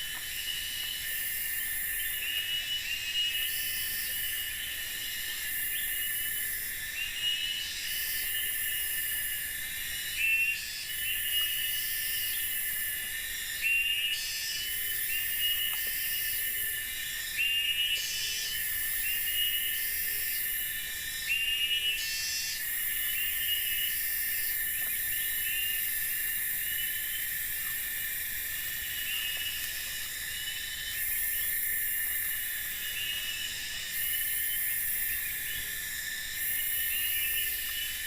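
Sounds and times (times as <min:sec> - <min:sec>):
insects trilling: 0:00.0 - 0:38.0
short insect chirps: 0:00.0 - 0:38.0.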